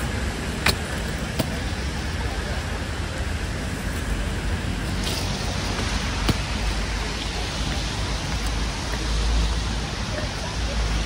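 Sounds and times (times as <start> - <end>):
rain hissing: 0.0 - 10.9.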